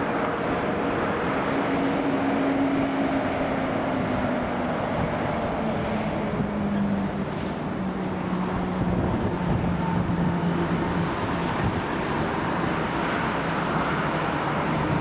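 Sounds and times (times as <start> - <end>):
jet airliner rumble: 0.0 - 15.0.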